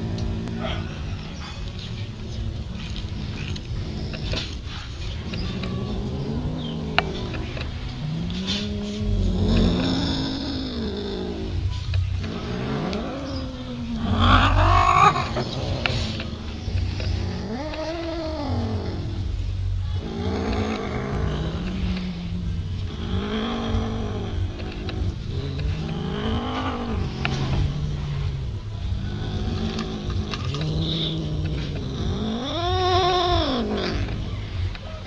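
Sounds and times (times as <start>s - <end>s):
cat growling low: 0.0s - 35.0s
cats yowling: 0.0s - 35.0s.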